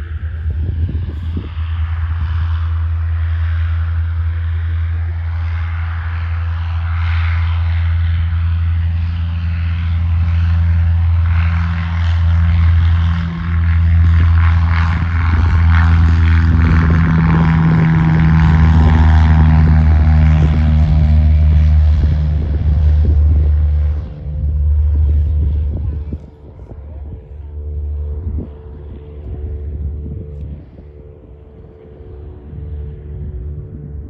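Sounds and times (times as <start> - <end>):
light aircraft propeller droning: 0.0 - 34.0.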